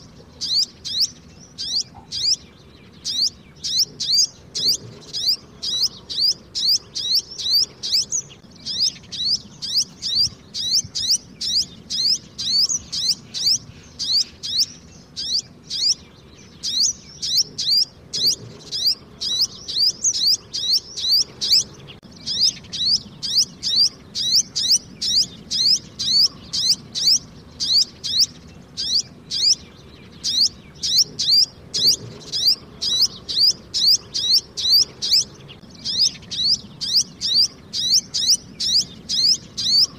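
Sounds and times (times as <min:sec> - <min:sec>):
fledgling bird chirping: 0:00.0 - 0:39.9.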